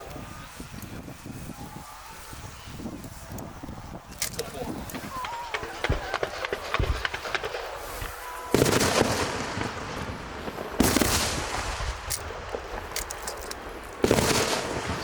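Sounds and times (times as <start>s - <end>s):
crackling hiss: 0.0s - 15.0s
fireworks bangs: 0.0s - 15.0s
small fireworks pops: 0.0s - 15.0s.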